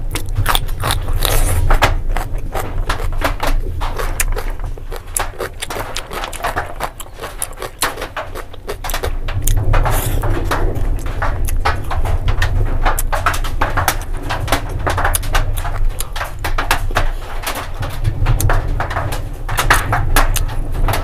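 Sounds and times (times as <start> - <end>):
cucumber crunching: 0.0 - 19.0, 19.7 - 20.6
wet chewing: 0.0 - 20.8
steady low hum: 0.0 - 21.0.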